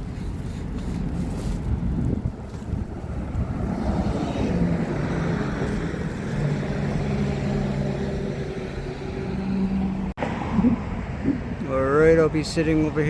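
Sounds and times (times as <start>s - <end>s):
engine humming: 0.0s - 11.7s
street noise: 0.0s - 13.0s.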